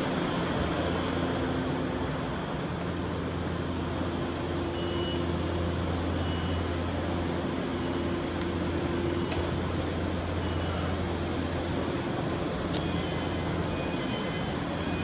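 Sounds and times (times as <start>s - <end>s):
constant rumbling machinery: 0.0s - 15.0s
steady low hum: 0.0s - 15.0s.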